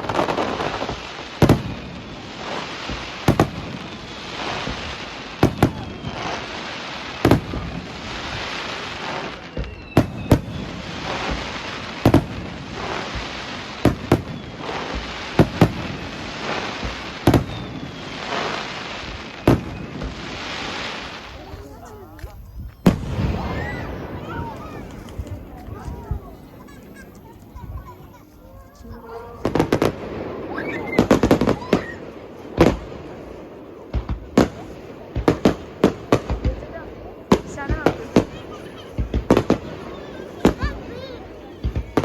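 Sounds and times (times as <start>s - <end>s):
fireworks bangs: 0.0s - 42.0s
fireworks crackling: 0.0s - 42.0s.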